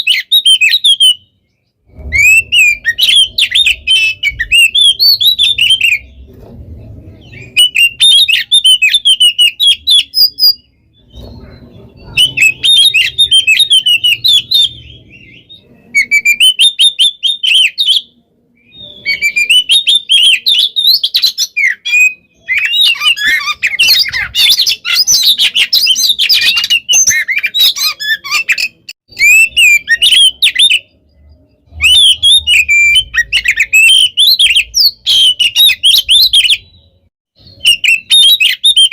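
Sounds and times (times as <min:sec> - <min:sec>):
bird singing whistled phrases: 0:00.0 - 0:06.3, 0:07.2 - 0:38.9.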